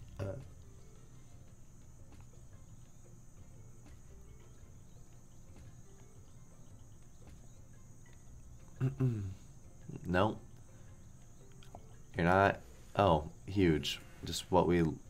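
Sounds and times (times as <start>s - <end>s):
low hum: 0.0s - 13.5s
insect chirping ambience: 0.0s - 15.0s.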